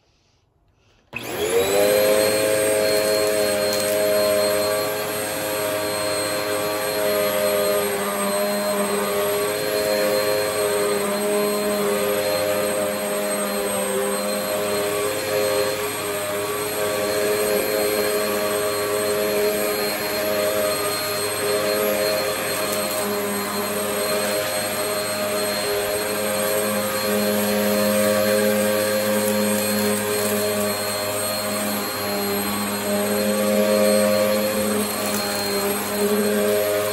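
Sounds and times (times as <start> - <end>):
vacuum cleaner whining: 0.0 - 36.9.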